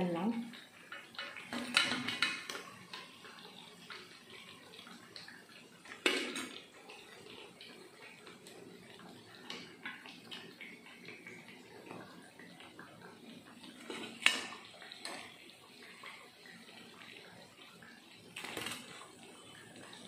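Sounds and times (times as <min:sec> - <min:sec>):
oil sizzling: 0:00.0 - 0:20.0.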